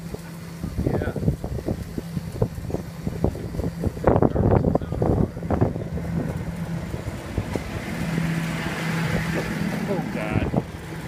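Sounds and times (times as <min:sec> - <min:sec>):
garbage truck engine humming: 0:00.0 - 0:11.0
wind buffeting microphone: 0:00.0 - 0:11.0.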